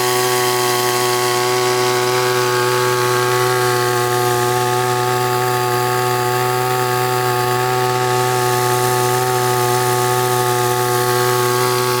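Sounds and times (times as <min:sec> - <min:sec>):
two-stroke sprayer engine running: 0:00.0 - 0:12.0.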